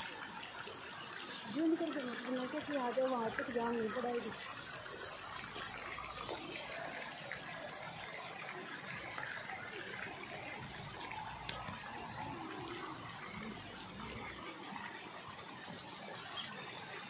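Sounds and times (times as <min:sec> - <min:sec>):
fountain jets splashing into pool: 0:00.0 - 0:17.0.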